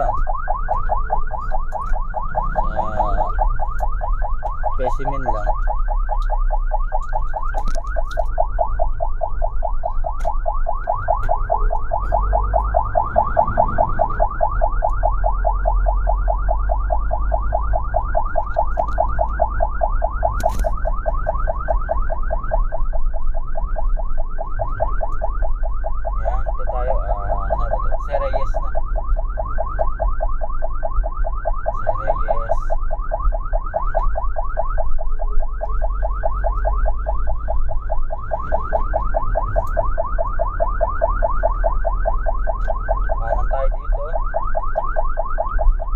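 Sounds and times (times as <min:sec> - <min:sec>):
ambulance siren yelping: 0:00.0 - 0:45.9
vehicle rumble: 0:00.0 - 0:45.9.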